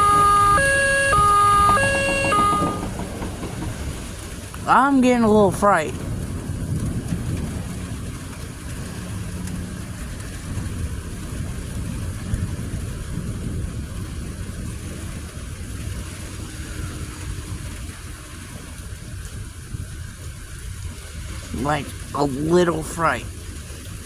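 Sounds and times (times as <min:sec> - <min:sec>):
low thunder rumble: 0:00.0 - 0:19.9.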